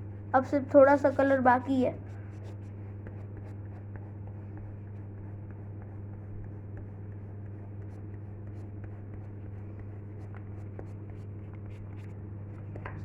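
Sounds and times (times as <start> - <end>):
low electrical hum: 0.0 - 13.0
colouring strokes on paper: 0.4 - 12.9.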